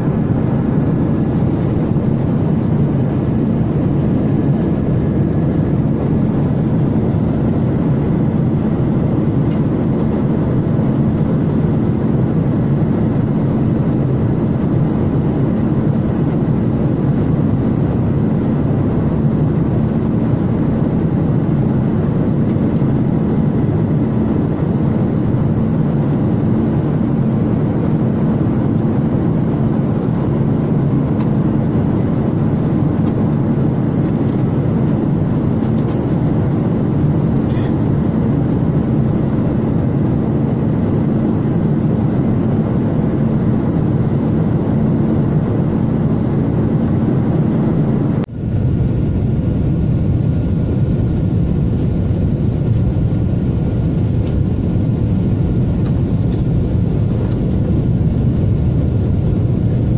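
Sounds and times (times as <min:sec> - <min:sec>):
jet cabin engine rumble: 0:00.0 - 0:59.9.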